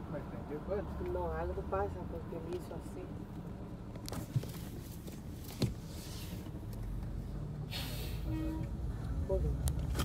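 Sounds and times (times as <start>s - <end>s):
road traffic rumble: 0.0s - 10.0s
vehicle engine rumble: 0.0s - 10.0s.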